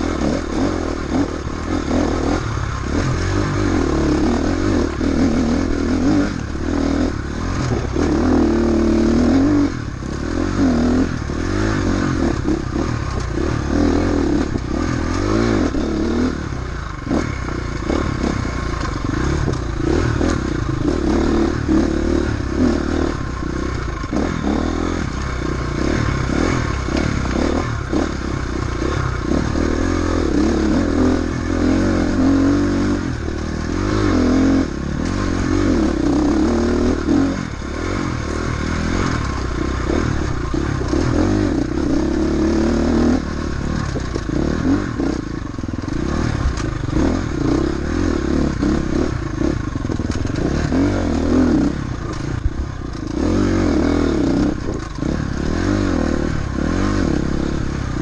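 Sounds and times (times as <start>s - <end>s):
off-road motorcycle engine: 0.0s - 58.0s.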